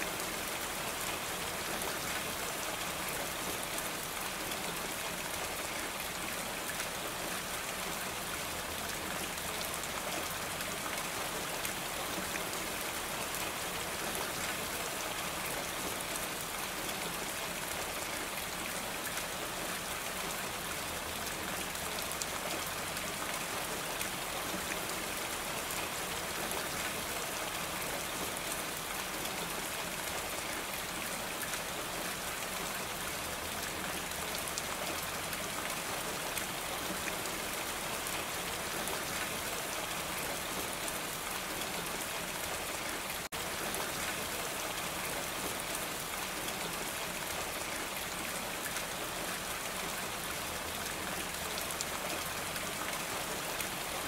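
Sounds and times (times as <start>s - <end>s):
rain falling on a roof: 0.0s - 54.0s.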